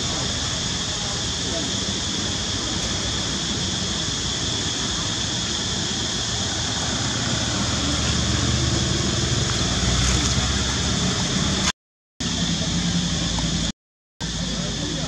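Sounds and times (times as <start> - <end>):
constant high hiss: 0.0 - 15.0.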